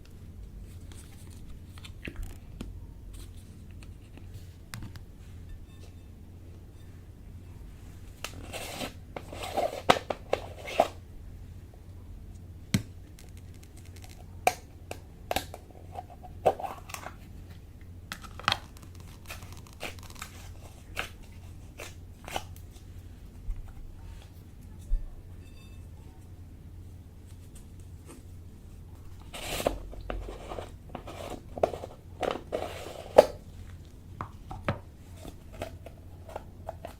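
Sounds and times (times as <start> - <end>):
low steady hum: 0.0 - 36.9.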